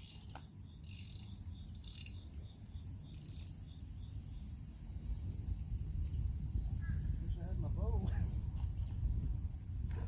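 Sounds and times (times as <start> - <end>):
crickets chirping: 0.0 - 9.8
constant low rumble: 0.0 - 10.0.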